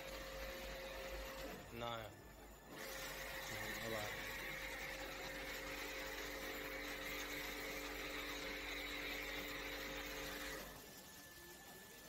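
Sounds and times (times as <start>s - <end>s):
pressure washer motor humming: 0.0s - 12.0s
water jet hissing on metal coil: 0.7s - 12.0s.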